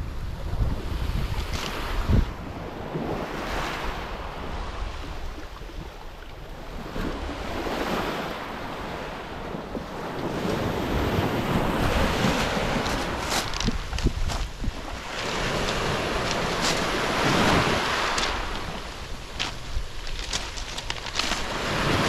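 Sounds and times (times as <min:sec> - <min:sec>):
wind buffeting microphone: 0:00.0 - 0:22.0
waves washing on pebble shore: 0:00.6 - 0:05.3, 0:06.7 - 0:22.0.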